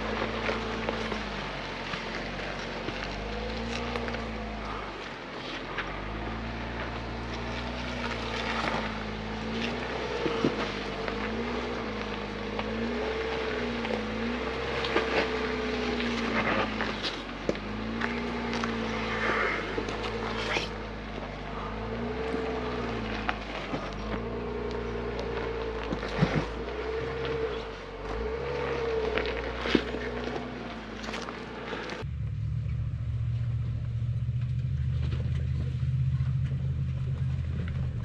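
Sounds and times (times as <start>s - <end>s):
tyres crunching on rocks: 0.0s - 32.2s
suv engine running low: 0.0s - 38.0s.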